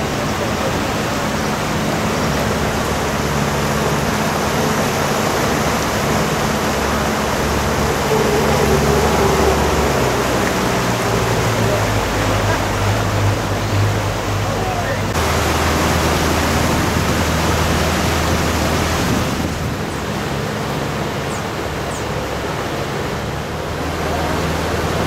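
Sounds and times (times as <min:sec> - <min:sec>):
outboard motor running: 0:00.0 - 0:25.0
water rushing in wake: 0:00.0 - 0:25.0.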